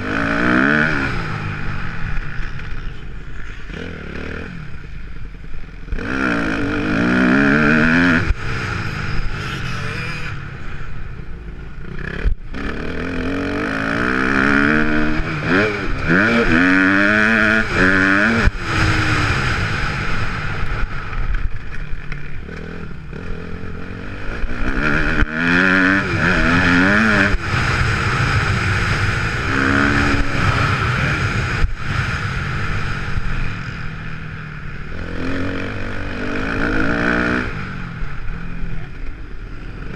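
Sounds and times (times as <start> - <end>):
motocross bike engine revving: 0.0 - 5.0, 5.8 - 39.9.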